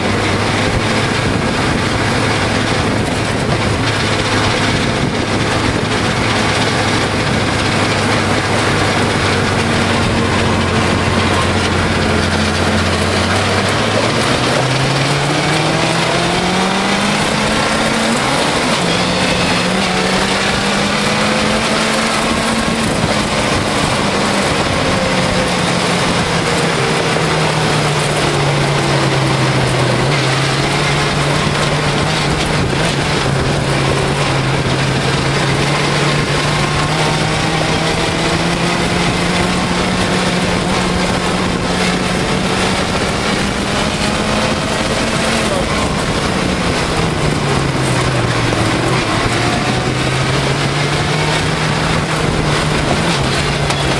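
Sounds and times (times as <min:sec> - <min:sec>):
motorcycle engine revving: 0:00.0 - 0:53.9
steady rushing noise: 0:00.0 - 0:53.9.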